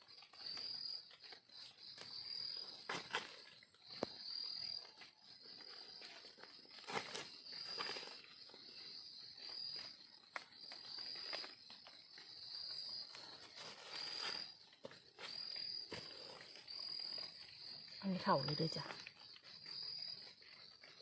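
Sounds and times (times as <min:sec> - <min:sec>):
insects calling in a pulse: 0:00.0 - 0:21.0
footsteps rustling through undergrowth: 0:00.1 - 0:21.0.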